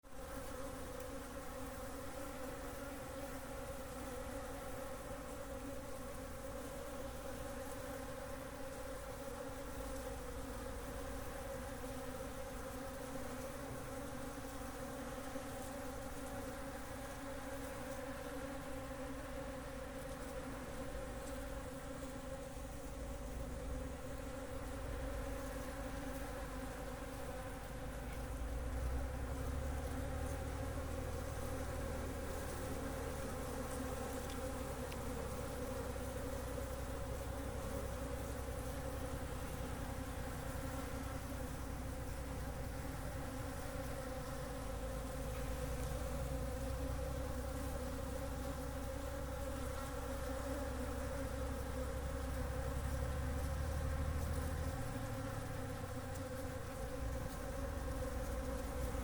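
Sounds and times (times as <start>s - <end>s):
flying insects buzzing: 0.0s - 59.0s.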